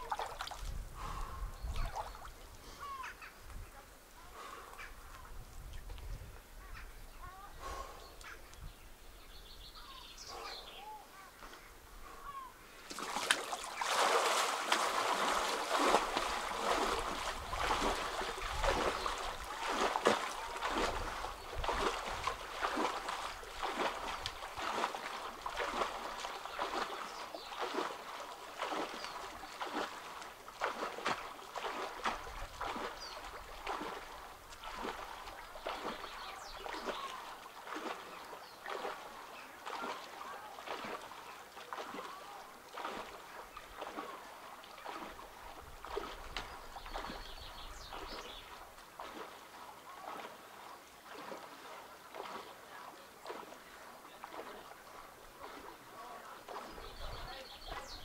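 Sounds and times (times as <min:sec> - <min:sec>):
swimming strokes splashing: 0:00.0 - 0:03.0, 0:12.0 - 0:58.0.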